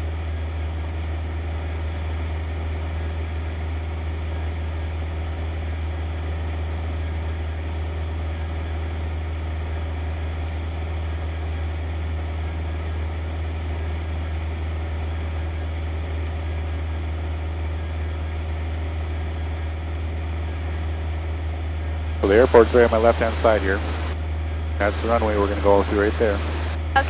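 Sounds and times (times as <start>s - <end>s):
airplane engine and propeller droning: 0.0s - 27.0s.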